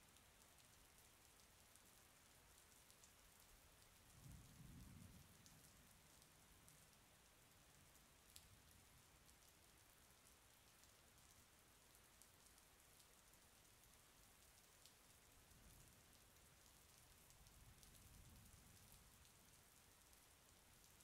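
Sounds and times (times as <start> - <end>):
faint rain hiss: 0.0 - 21.0
tiny raindrop ticks: 0.0 - 21.0.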